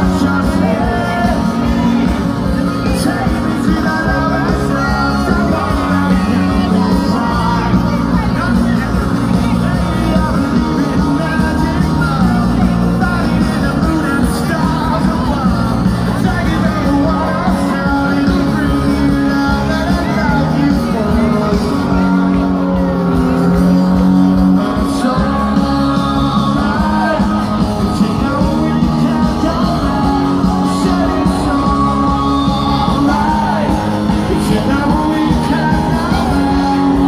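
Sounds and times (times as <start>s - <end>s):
lead vocal singing: 0.0s - 37.0s
rock band playing live: 0.0s - 37.0s.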